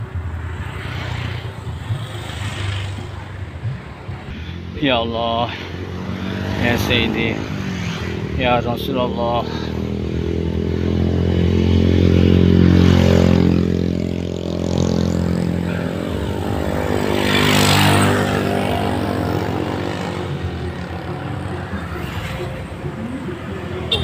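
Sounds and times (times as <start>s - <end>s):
vehicles passing close: 0.0s - 24.0s.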